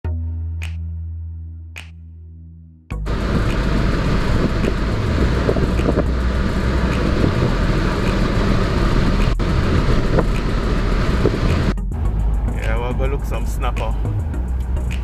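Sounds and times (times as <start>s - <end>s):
engine rumble: 3.0s - 15.0s
wind noise on microphone: 3.0s - 15.0s.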